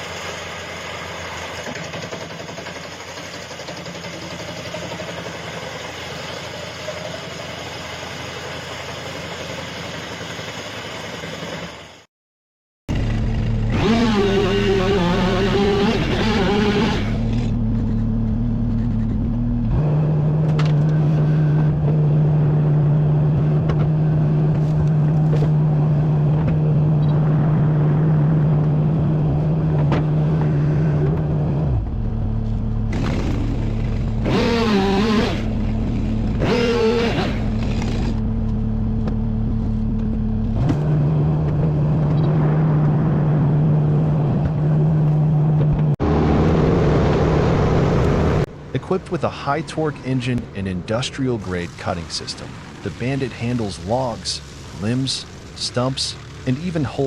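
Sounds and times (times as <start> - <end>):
wood chipper engine running: 0.0 - 12.0, 12.9 - 43.0, 51.5 - 57.0.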